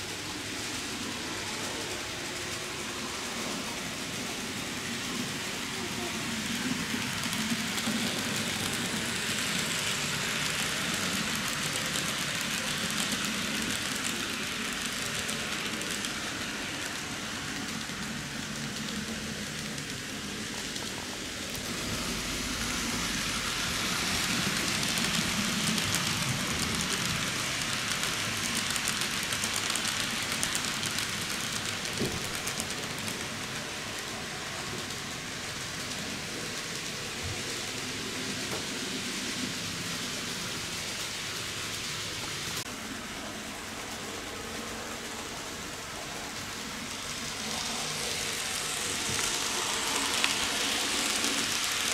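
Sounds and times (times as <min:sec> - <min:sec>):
model train rolling on track: 0:00.0 - 0:51.9.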